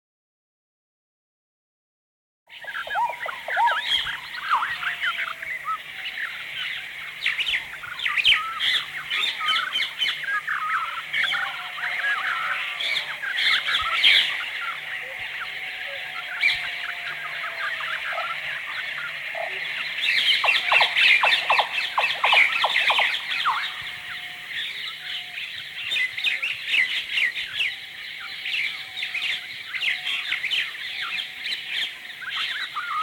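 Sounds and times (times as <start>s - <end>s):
small birds chirping: 2.5s - 33.0s.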